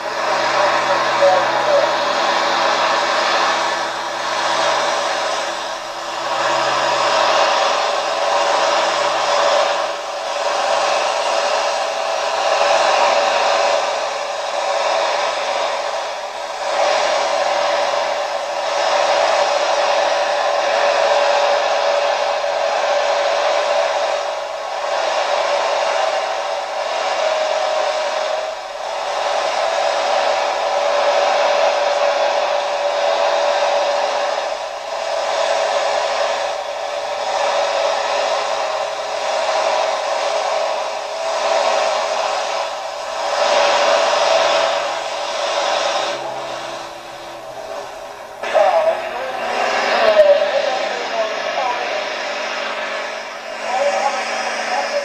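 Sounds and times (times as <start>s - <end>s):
tractor engines roaring under load: 0.0s - 55.0s.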